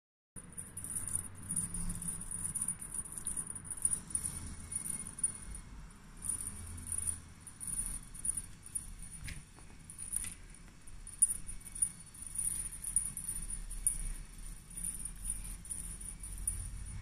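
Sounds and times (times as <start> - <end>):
cat toy jingling and rattling: 0.4 - 17.0
soft rustling and handling: 0.6 - 17.0.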